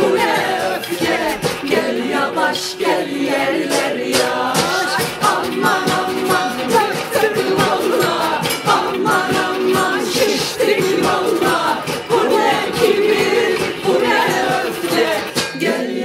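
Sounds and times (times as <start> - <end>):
beat struck on pots and pans: 0.0 - 16.0
group singing folk chorus: 0.0 - 16.0.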